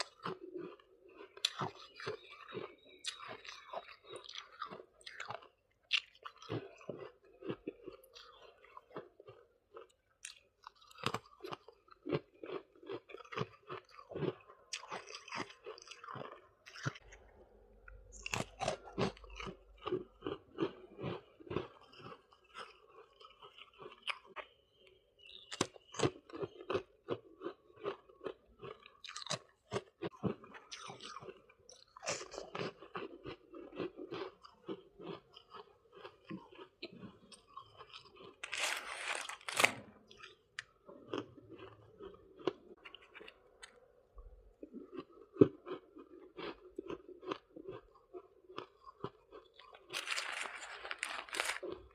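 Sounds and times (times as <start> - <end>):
crunching ice chewing: 0.0 - 17.2, 17.9 - 43.9, 44.5 - 51.9.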